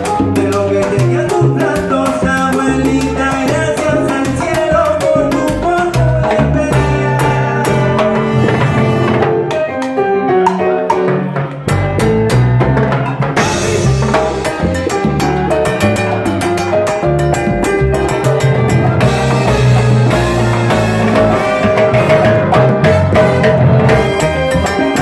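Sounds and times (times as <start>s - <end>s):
live salsa band playing: 0.0s - 25.0s.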